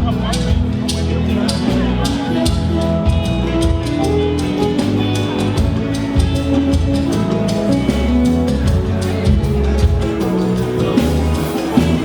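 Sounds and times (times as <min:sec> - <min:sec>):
bass line: 0:00.0 - 0:12.0
live band music: 0:00.0 - 0:12.0
steady drum beat: 0:00.0 - 0:12.0.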